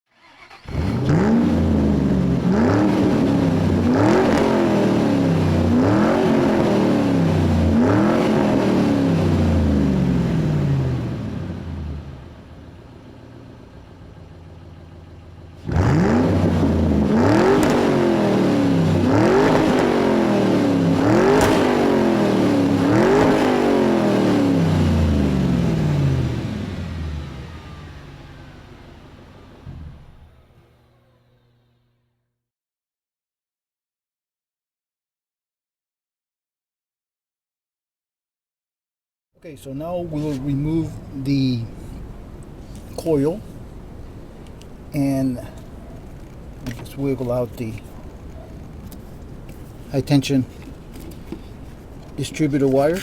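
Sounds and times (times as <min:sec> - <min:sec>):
car engine revving: 0:00.1 - 0:31.8, 0:39.5 - 0:53.0.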